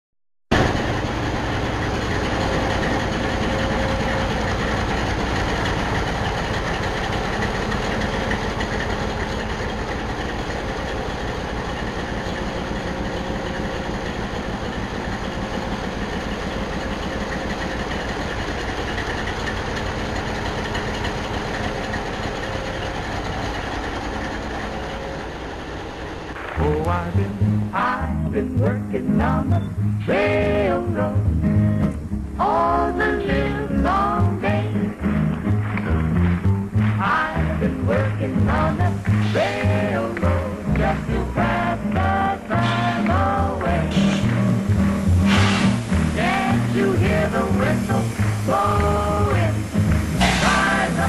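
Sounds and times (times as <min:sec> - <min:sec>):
diesel locomotive engine idling: 0:00.5 - 0:51.0.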